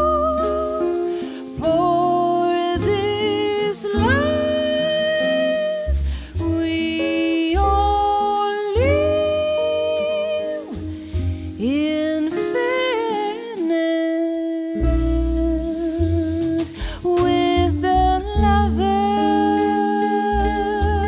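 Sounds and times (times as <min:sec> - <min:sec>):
drum kit with cymbals: 0:00.0 - 0:13.8, 0:14.8 - 0:21.0
guitar: 0:00.0 - 0:21.0
plucked double bass: 0:00.0 - 0:21.0
woman singing jazz: 0:00.0 - 0:21.0.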